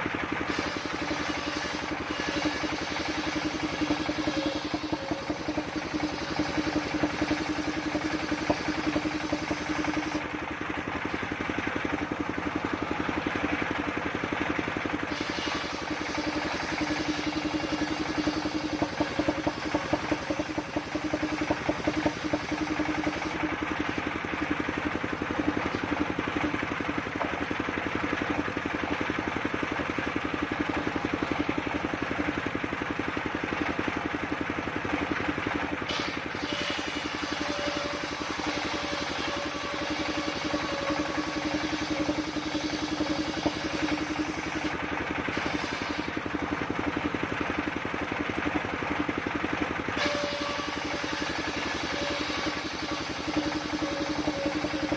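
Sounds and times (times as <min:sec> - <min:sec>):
sawmill engine pulsing drone: 0:00.0 - 0:54.9.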